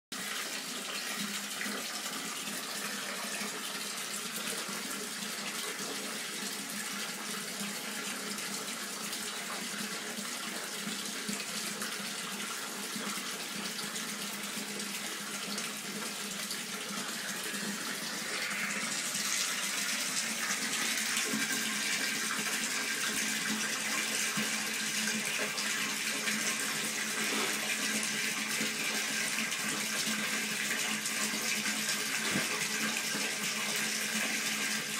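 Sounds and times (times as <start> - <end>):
water running into bathtub: 0.2 - 34.9.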